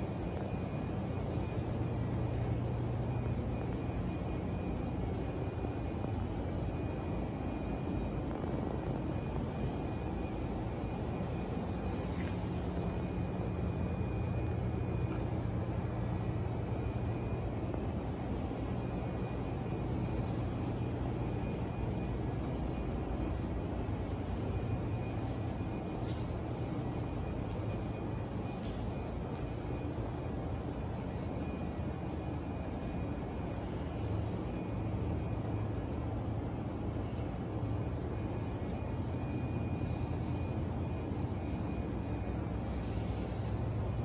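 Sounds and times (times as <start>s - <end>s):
faint high whine: 0.0s - 44.0s
low mechanical drone: 0.0s - 44.0s.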